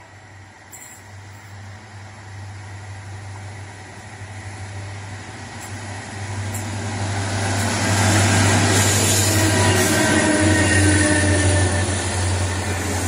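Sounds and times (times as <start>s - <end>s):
diesel locomotive engines: 0.0s - 13.0s
train wheels on rails: 0.0s - 13.0s.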